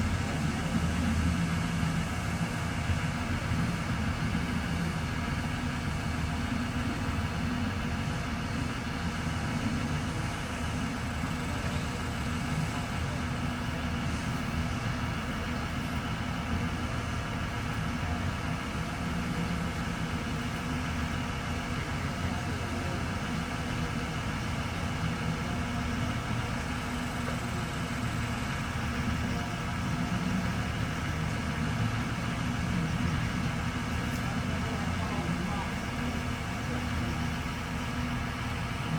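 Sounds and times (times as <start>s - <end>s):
large engine idling: 0.0s - 38.9s.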